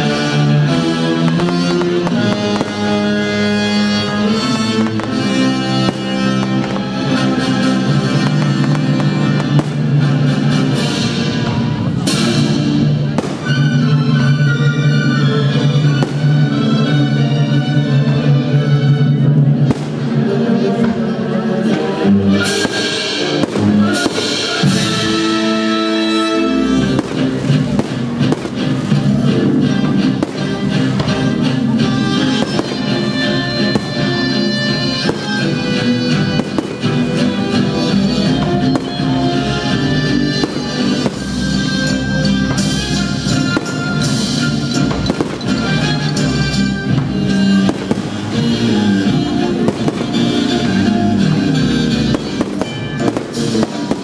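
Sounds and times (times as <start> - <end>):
firework bangs: 0.0 - 54.0
orchestral music playing loudly: 0.0 - 54.0.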